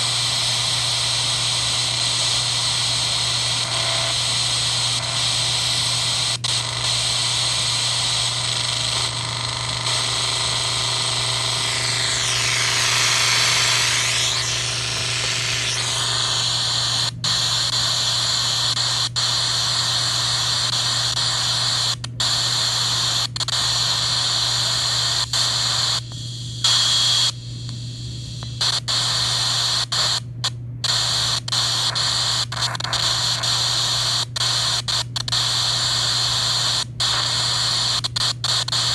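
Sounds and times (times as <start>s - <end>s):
radio static hiss: 0.0s - 27.3s, 28.4s - 30.2s, 30.8s - 38.9s
steady hum: 0.0s - 38.9s.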